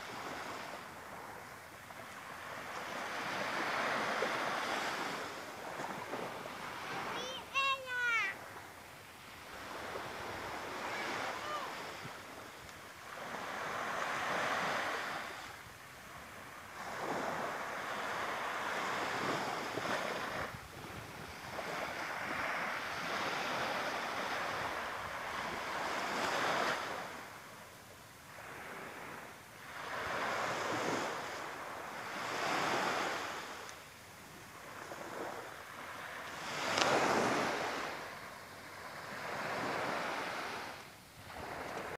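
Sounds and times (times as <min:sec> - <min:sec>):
waves breaking on beach: 0:00.0 - 0:41.9.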